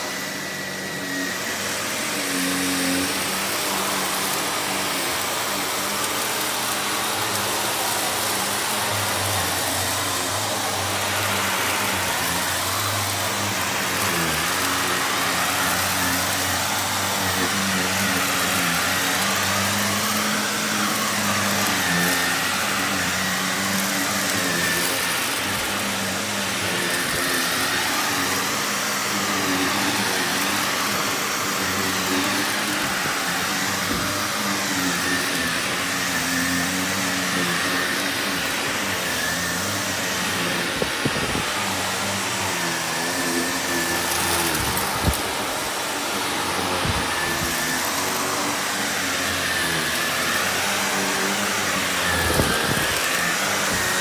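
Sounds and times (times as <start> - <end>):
upright vacuum cleaner running: 0.0 - 54.0.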